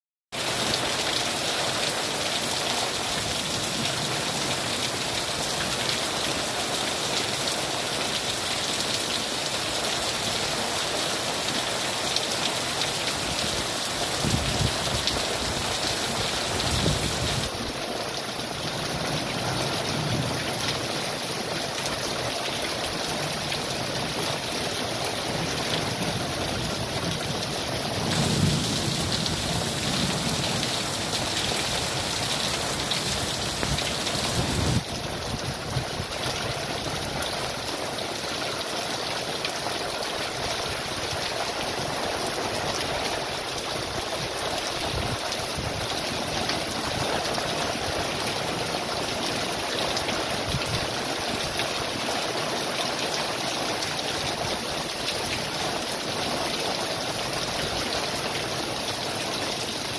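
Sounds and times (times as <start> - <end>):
rain on leaves and gravel: 0.3 - 59.9.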